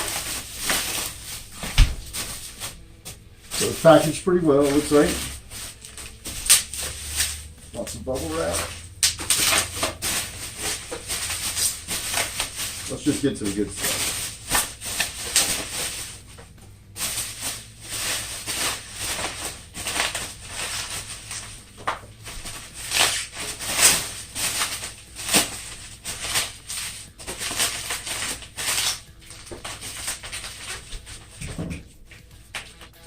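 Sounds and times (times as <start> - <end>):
bubble wrap crinkling: 0.0 - 33.0.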